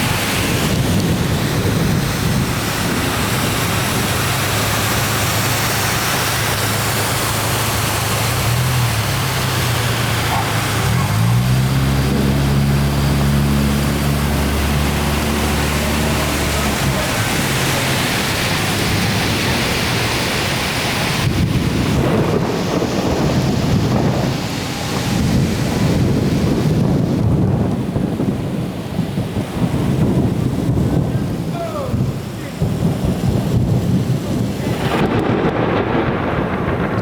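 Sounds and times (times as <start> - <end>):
heavy rain pouring: 0.0 - 37.0
low rumbling: 0.0 - 37.0
vehicle engine humming: 0.0 - 37.0.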